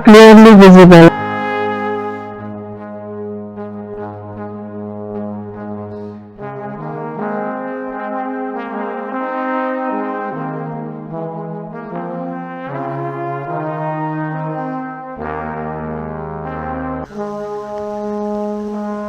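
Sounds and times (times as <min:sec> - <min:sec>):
slow horn-like chords: 0:00.0 - 0:19.0.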